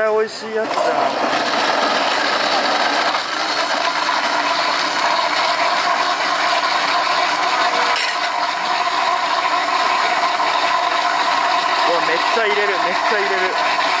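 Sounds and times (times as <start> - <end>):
electric juicer motor whirring: 0.0 - 14.0.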